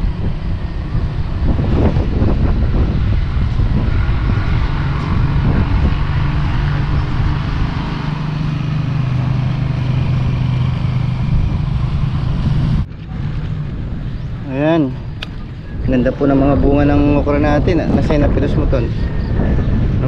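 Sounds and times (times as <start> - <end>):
low rumbling noise: 0.0 - 20.0.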